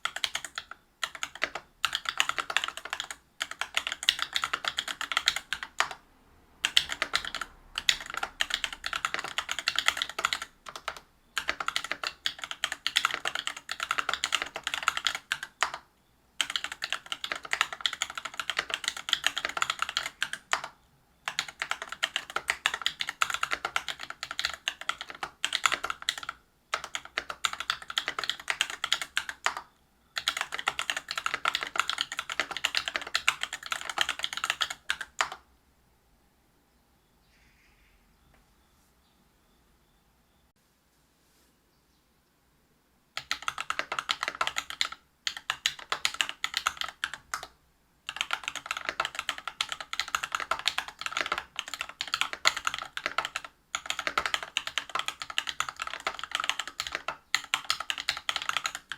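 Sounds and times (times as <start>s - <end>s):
mechanical keyboard typing: 0.0s - 6.0s, 6.6s - 35.4s, 43.2s - 58.9s.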